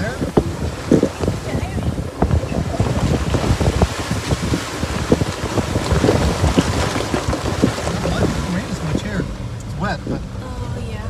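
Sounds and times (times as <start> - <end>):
knocks and rattles: 0.0 - 10.4
vehicle engine rumbling: 0.0 - 11.0.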